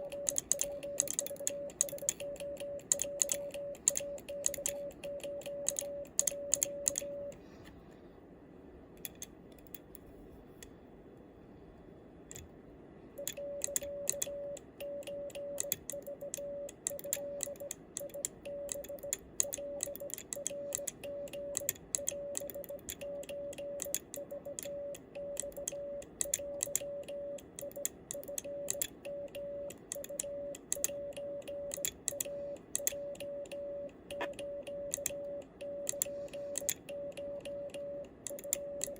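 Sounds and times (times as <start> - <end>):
morse sidetone beeps: 0.0 - 7.4, 13.2 - 38.9.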